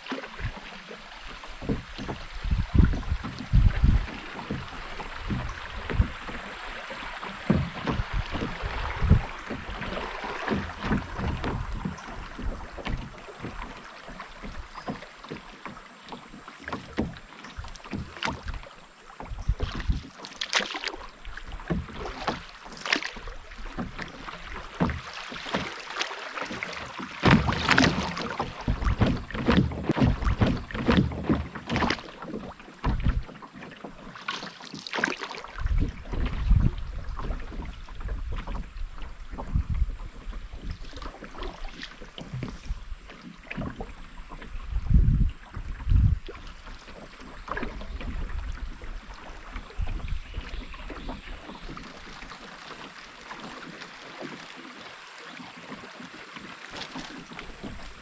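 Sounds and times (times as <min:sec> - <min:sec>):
paddle splashing in water: 0:00.0 - 0:58.0.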